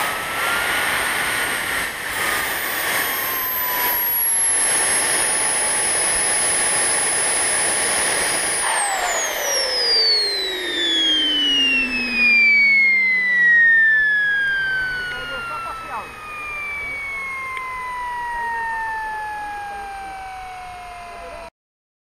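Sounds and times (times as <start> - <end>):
model aircraft engine whine: 0.0 - 21.5.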